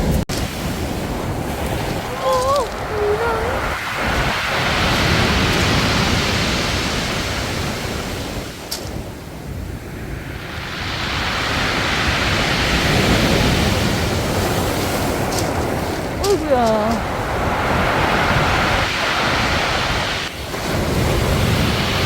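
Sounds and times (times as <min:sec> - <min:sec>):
waves washing onto a beach: 0:00.0 - 0:22.0.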